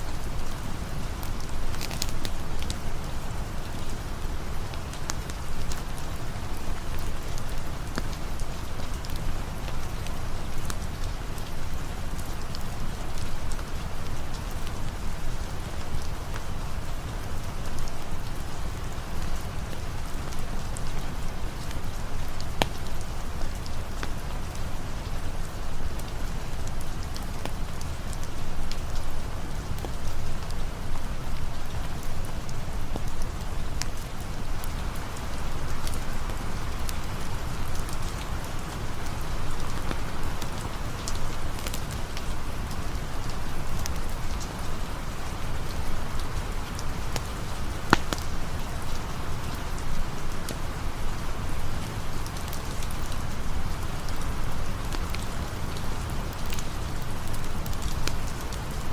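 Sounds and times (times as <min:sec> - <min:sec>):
campfire crackling: 0:00.0 - 0:58.9
rain falling: 0:00.0 - 0:58.9.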